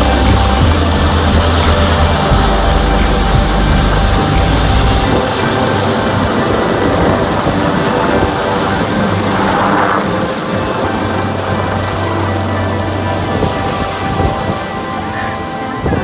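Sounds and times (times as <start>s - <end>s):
helicopter engine whine: 0.0s - 16.0s
helicopter rotor beat: 0.0s - 16.0s.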